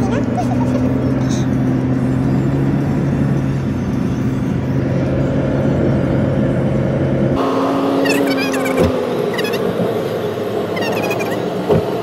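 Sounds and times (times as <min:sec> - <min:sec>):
car engine hum: 0:00.0 - 0:12.0
tyre and road rumble: 0:00.0 - 0:12.0.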